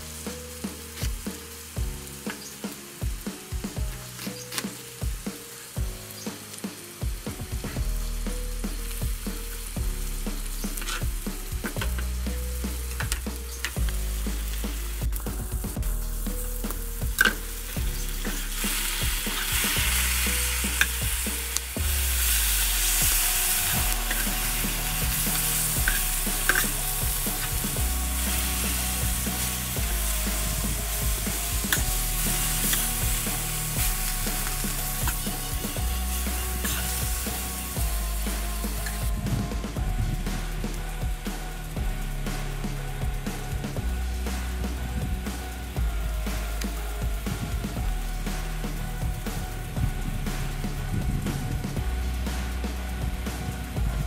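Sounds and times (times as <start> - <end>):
food sizzling in a pan: 0.0 - 54.0
quiet background music: 0.0 - 54.0.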